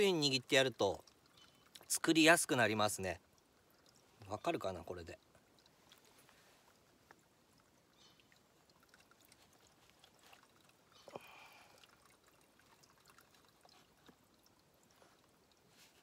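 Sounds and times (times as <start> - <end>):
stream trickling: 0.0 - 16.0.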